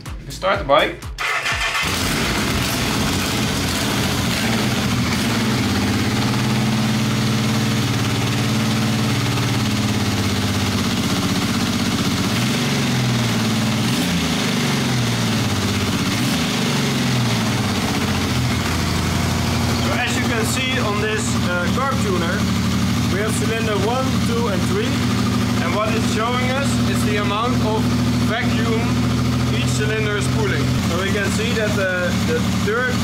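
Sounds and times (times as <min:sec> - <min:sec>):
motorcycle engine idling: 0:01.4 - 0:33.0.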